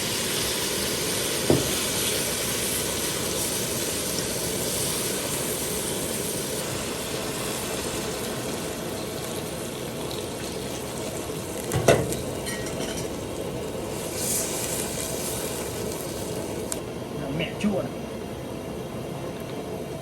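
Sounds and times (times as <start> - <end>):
food sizzling in a pan: 0.0 - 16.8.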